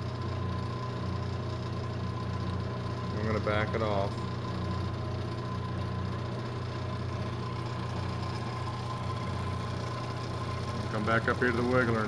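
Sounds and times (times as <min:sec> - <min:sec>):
milling machine humming: 0:00.0 - 0:12.0.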